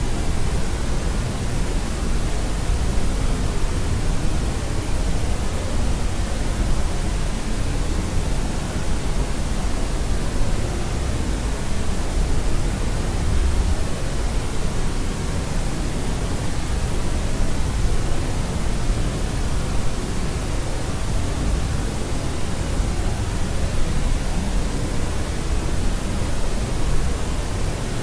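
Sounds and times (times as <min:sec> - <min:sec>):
steady white noise hiss: 0:00.0 - 0:28.0.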